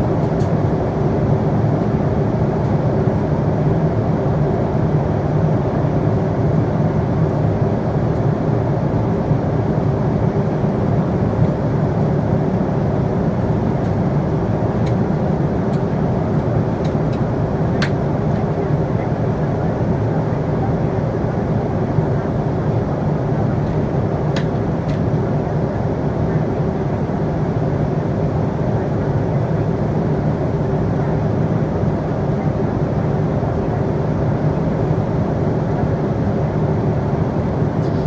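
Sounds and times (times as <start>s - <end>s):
airliner cabin engine drone: 0.0s - 38.0s.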